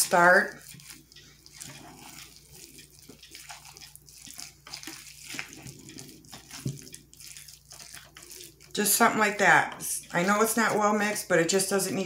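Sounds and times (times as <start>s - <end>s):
spatula stirring wet meat: 0.0s - 12.0s.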